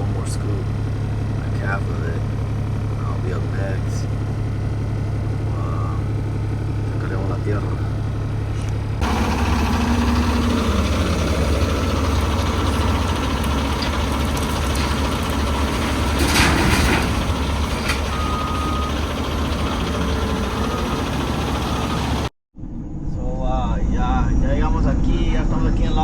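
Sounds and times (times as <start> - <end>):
diesel truck engine running: 0.0 - 22.3.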